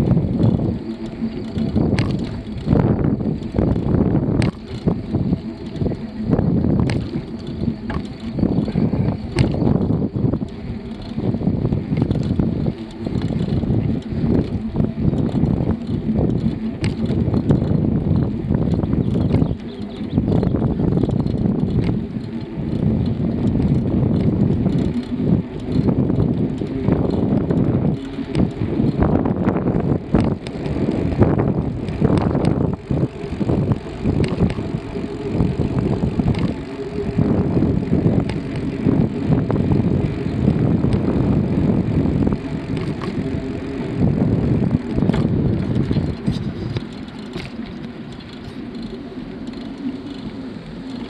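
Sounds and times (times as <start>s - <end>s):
bicycle knocks and rattles: 0.0s - 51.0s
wind buffeting microphone: 0.0s - 51.0s.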